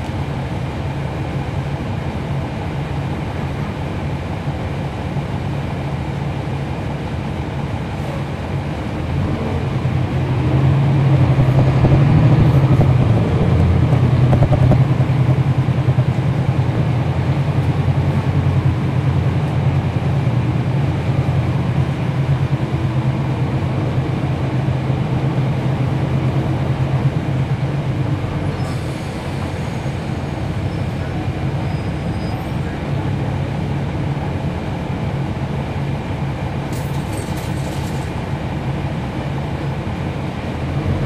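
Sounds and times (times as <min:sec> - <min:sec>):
bus diesel engine drone: 0:00.0 - 0:41.0.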